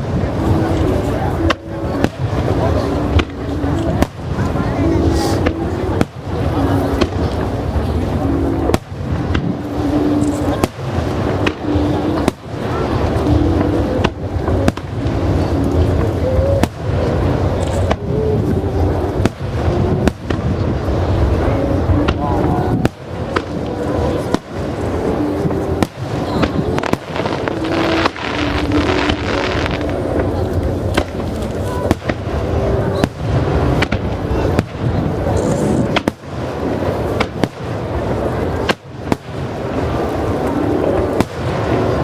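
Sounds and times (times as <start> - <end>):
deep rumble and crackle of barrage: 0.0 - 42.0
fireworks bursting with sharp bangs: 0.0 - 42.0.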